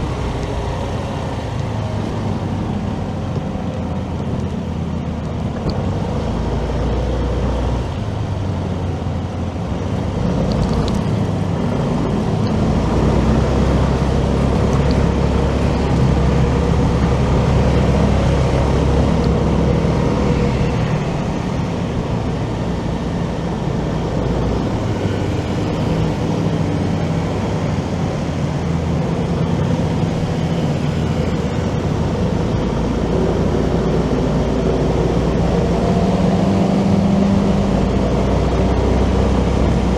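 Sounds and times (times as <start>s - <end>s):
motorcycle riding: 0.0s - 39.9s.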